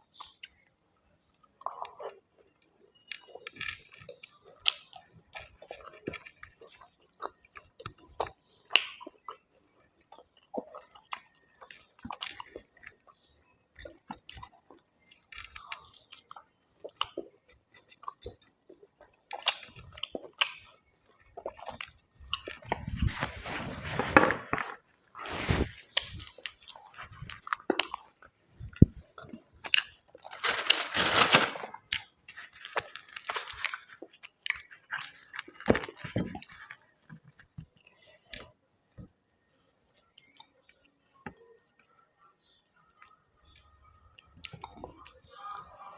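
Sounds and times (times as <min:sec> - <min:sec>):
person chewing crisp food: 0:00.0 - 0:31.0, 0:31.7 - 0:38.6, 0:43.0 - 0:45.9.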